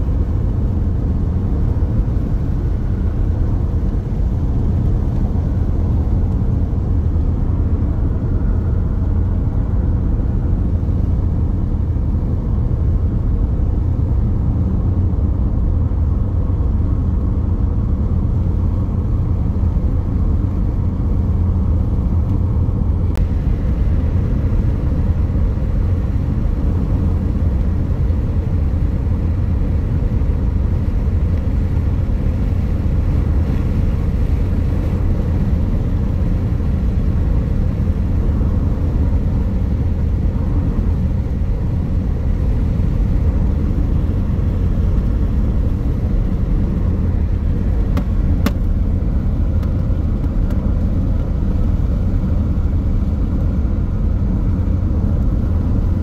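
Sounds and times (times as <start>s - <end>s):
car driving steadily: 0.0s - 56.0s.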